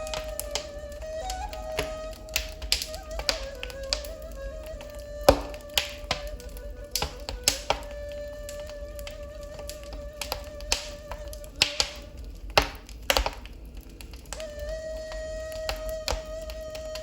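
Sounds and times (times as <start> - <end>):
ney flute long note: 0.0 - 12.4, 14.3 - 17.0
wood fire crackling and popping: 0.0 - 17.0.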